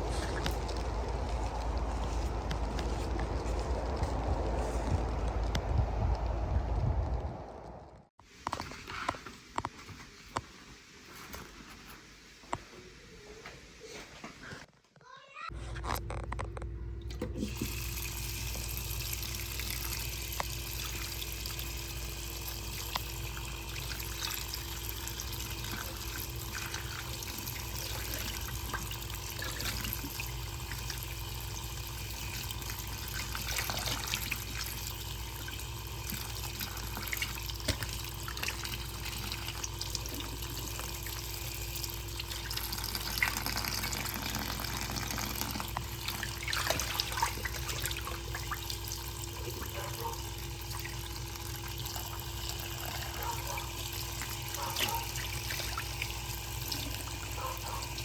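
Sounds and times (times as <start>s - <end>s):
running water rushing: 0.0s - 7.7s, 17.3s - 58.0s.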